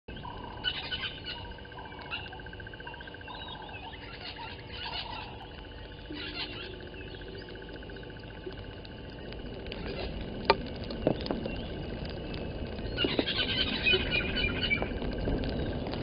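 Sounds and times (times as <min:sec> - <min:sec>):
wild birds chirping and calling: 0:00.1 - 0:10.4, 0:11.1 - 0:15.9.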